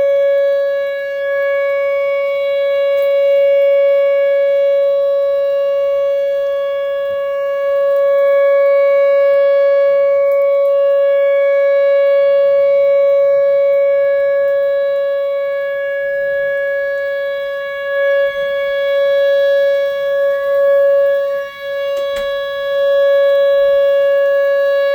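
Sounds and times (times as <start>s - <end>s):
tornado warning siren: 0.0s - 24.9s.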